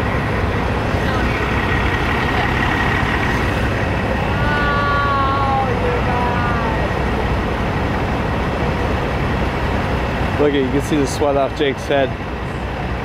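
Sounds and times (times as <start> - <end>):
trucks idling: 0.0 - 13.0.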